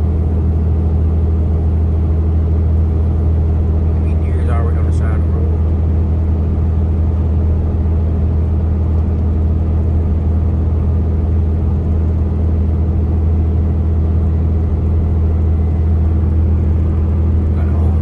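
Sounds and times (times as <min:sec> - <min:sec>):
truck engine and road drone: 0:00.0 - 0:18.0.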